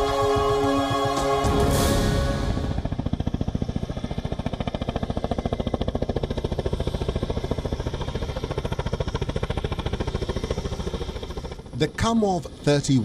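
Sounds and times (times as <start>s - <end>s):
helicopter rotors chopping: 0.0s - 13.0s.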